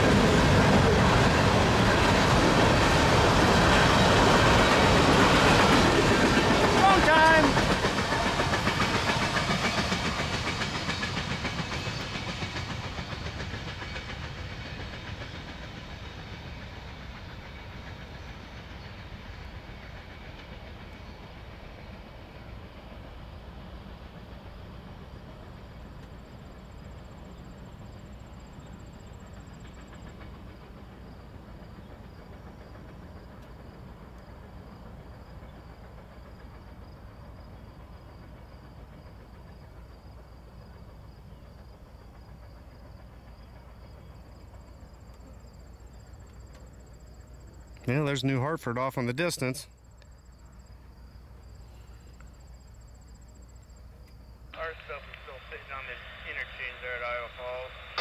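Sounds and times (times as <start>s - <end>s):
freight train clattering past: 0.0s - 51.6s, 54.6s - 58.0s.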